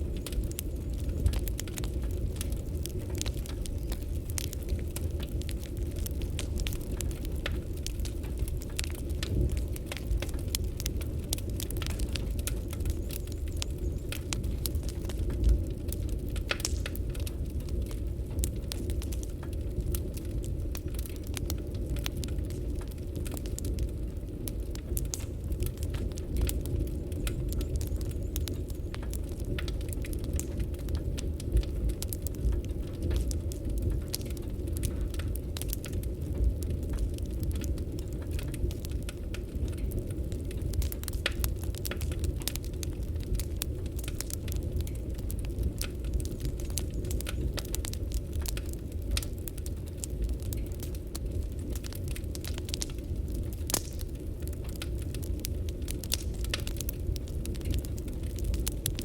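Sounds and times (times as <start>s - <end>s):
low fire rumble: 0.0s - 59.0s
wood fire crackling and popping: 0.0s - 59.0s.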